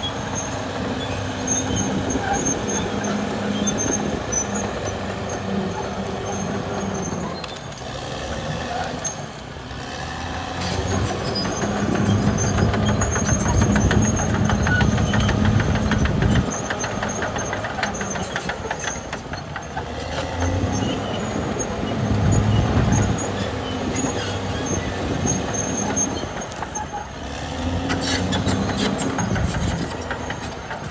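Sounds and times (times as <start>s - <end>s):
steel tracks clanking and rattling: 0.0s - 7.8s, 10.6s - 30.9s
bulldozer diesel engine working: 0.0s - 30.9s.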